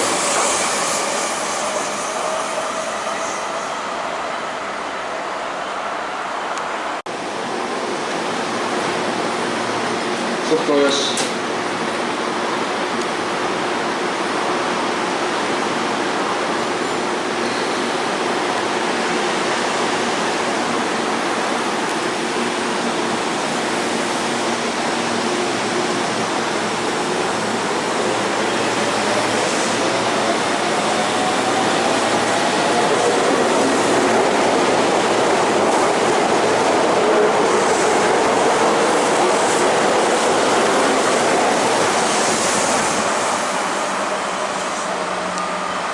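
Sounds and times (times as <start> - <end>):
train running noise: 0.0 - 45.9.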